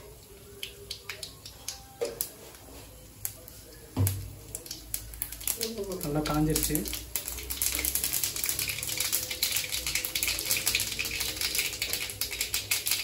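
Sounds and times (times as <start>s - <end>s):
seeds spluttering in hot oil: 0.0s - 2.4s, 3.1s - 13.0s.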